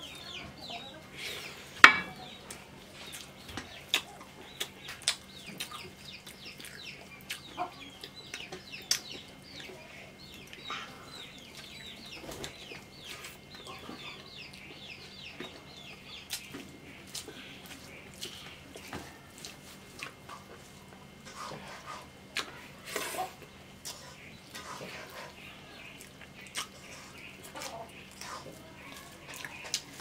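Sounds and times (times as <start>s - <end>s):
chickens chirping and clucking: 0.0s - 30.0s.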